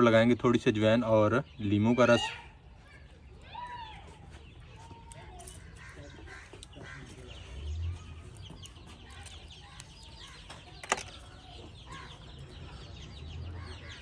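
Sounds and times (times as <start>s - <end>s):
chickens clucking: 0.0s - 14.0s
small birds chirping: 0.0s - 14.0s.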